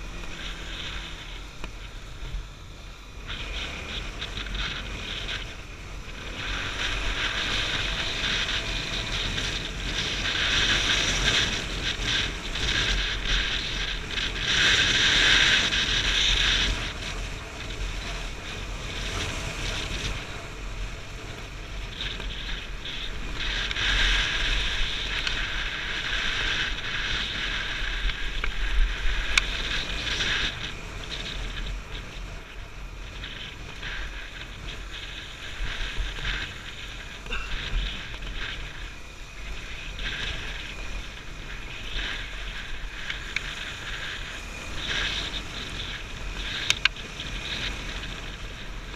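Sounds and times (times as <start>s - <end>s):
motorcycle engine running: 0.0s - 48.9s
wind buffeting microphone: 0.0s - 48.9s.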